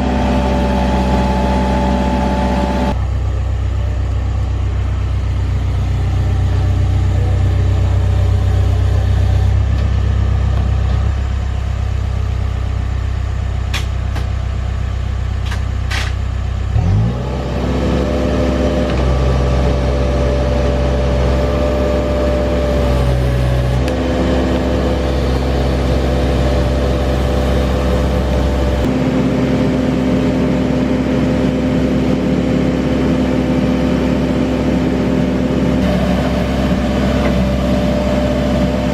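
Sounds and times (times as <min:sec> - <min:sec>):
diesel engine revving: 0:00.0 - 0:12.6, 0:15.4 - 0:38.9
engine whine: 0:00.0 - 0:38.9.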